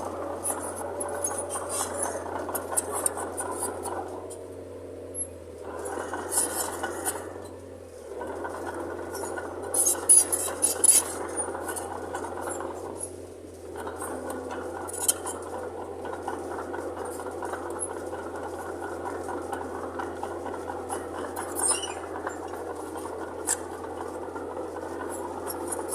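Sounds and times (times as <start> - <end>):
bulldozer engine running: 0.0 - 25.9.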